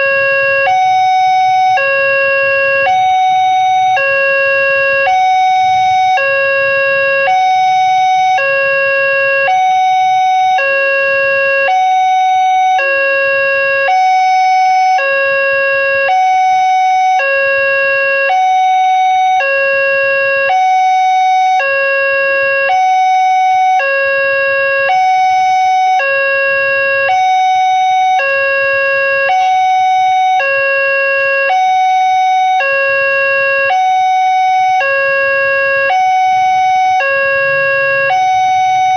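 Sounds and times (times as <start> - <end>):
two-tone crossing alarm: 0.0 - 38.9.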